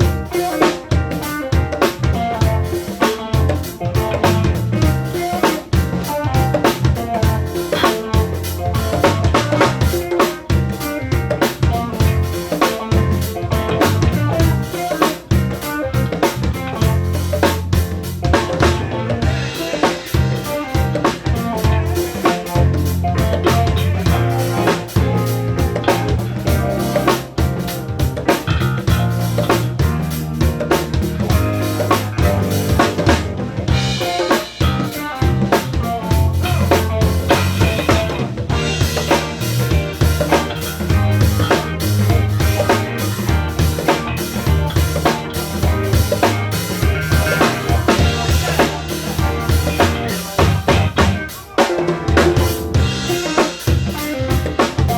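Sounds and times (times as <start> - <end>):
bass line: 0.0 - 51.3, 52.1 - 54.9
drum kit beat with rimshots: 0.0 - 54.9
live band instrumental groove: 0.0 - 54.9.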